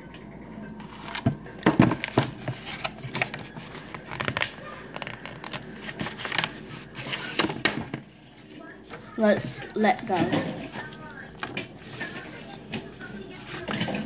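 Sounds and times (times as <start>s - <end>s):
rustling and crinkling handling: 0.2s - 14.0s.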